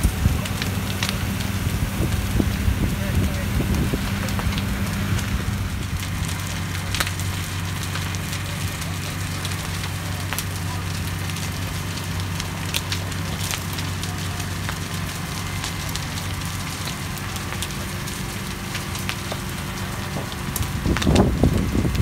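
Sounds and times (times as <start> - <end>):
flames crackling and popping: 0.0 - 22.0
low mechanical hum: 0.0 - 22.0
uneven rumbling: 0.0 - 22.0.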